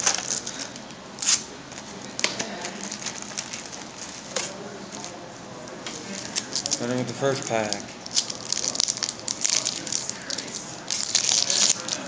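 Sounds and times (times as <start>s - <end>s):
foil wrappers crinkling: 0.0s - 5.2s, 6.1s - 12.0s.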